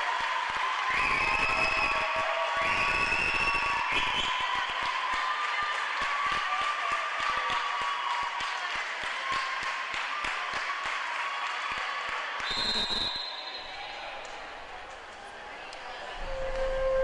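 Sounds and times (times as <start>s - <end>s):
spectators applauding: 0.0s - 17.0s.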